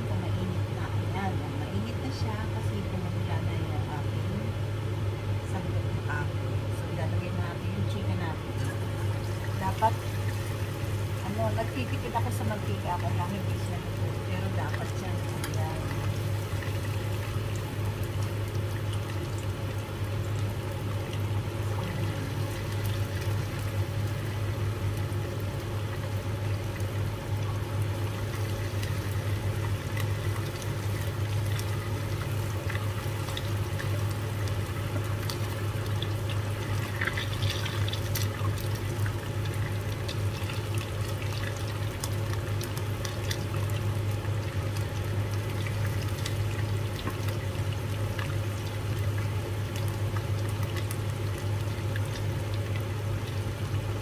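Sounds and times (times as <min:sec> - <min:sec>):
chicken wings sizzling in oil: 0:07.7 - 0:54.0.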